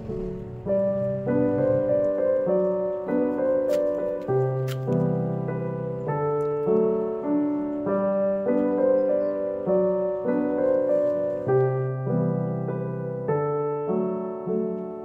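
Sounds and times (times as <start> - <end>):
gentle keyboard music: 0.0 - 15.0.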